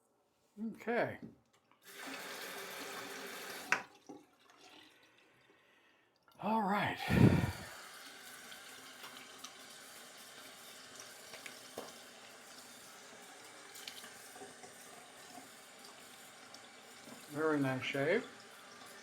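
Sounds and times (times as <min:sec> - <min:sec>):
tap water running into sink: 0:01.8 - 0:05.5, 0:07.1 - 0:19.0.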